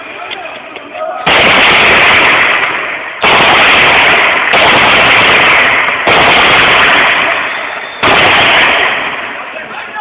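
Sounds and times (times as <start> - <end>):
automatic gunfire bursts: 1.3 - 9.3.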